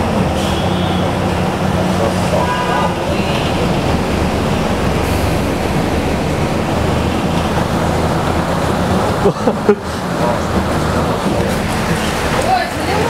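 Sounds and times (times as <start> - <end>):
bus engine drone: 0.0 - 13.0
water rushing from wheels: 0.0 - 13.0.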